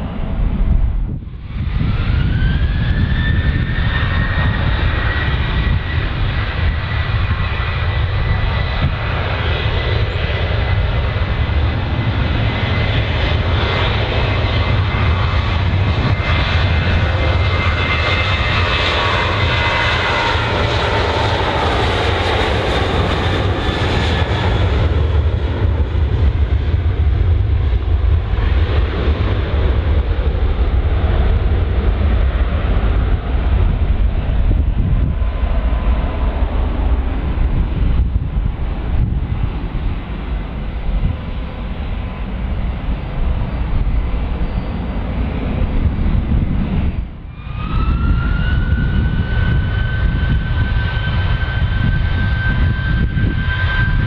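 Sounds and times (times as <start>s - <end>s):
jet engine low rumble: 0.0s - 54.0s
jet engine whine: 0.0s - 54.0s.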